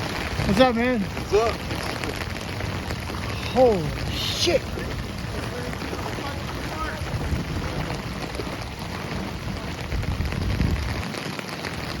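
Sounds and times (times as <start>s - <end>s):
heavy rain hissing: 0.0s - 12.0s
low rumbling: 0.0s - 12.0s.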